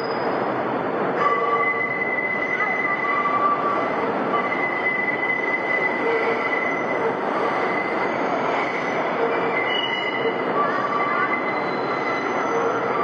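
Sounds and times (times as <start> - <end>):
train running rumble: 0.0 - 13.0
train wheels screeching on rails: 0.0 - 13.0.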